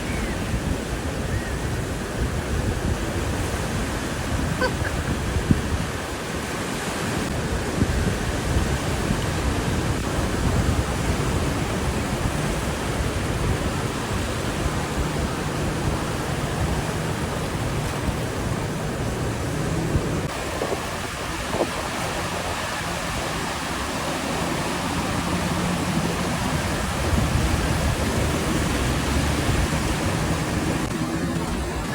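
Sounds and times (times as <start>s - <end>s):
waves breaking: 0.0s - 31.9s
wind buffeting microphone: 0.0s - 31.9s.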